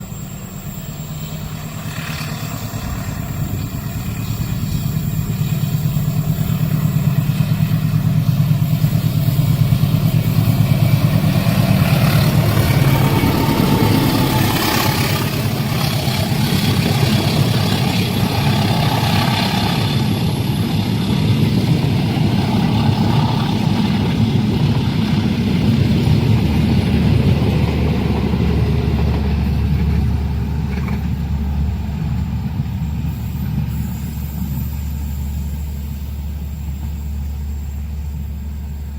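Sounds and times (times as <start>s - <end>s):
diesel locomotive rumble: 0.0s - 38.9s.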